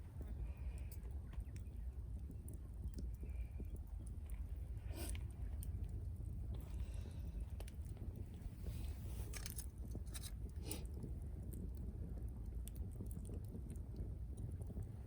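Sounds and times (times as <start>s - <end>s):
low steady fire rumble: 0.0s - 15.0s
wood fire crackling: 0.0s - 15.0s.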